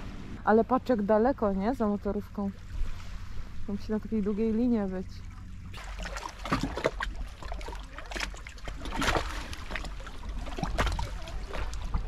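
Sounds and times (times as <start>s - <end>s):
low rumble: 0.0s - 12.0s
waves lapping against rocks: 2.0s - 12.0s.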